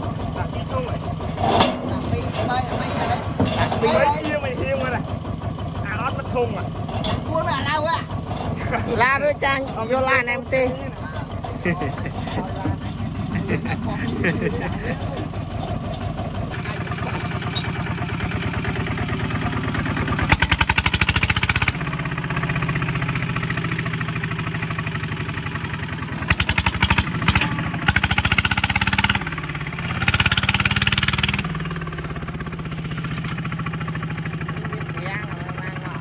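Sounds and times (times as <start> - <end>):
diesel engine pulsing and revving: 0.0 - 36.0.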